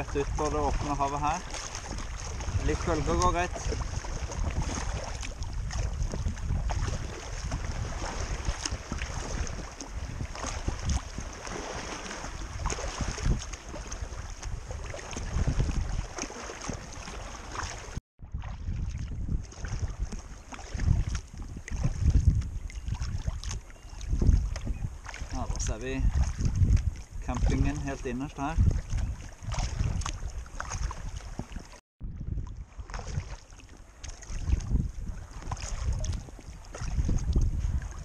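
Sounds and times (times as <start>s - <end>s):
water lapping and splashing: 0.0s - 38.0s
wind buffeting microphone: 0.0s - 38.0s.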